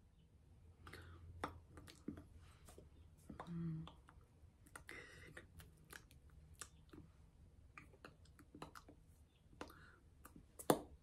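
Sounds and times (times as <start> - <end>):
soft breathy mouth sounds: 0.8 - 10.9.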